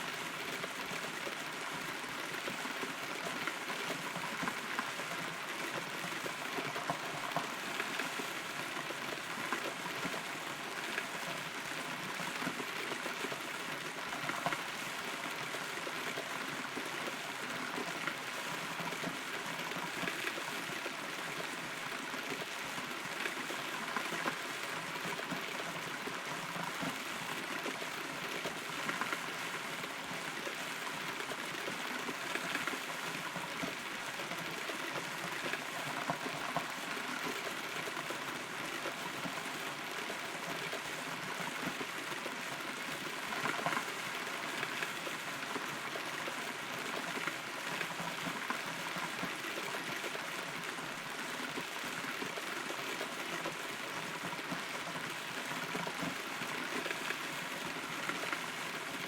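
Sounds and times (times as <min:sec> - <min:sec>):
steady rainfall: 0:00.0 - 0:59.0
raindrops tapping close by: 0:00.6 - 0:59.0.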